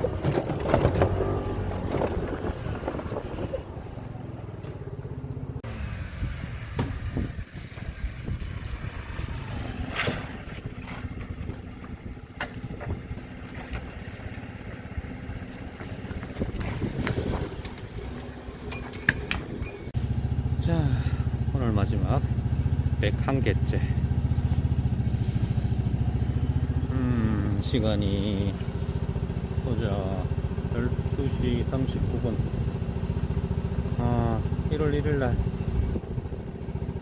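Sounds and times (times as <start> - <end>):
motorcycle engine running: 7.0 - 37.0.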